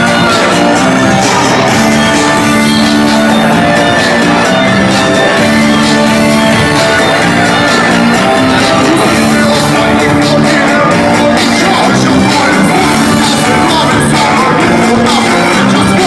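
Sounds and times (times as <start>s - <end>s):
live pop band playing dance song: 0.0s - 16.0s
steady drum beat: 0.0s - 16.0s
sustained bass notes: 0.0s - 16.0s.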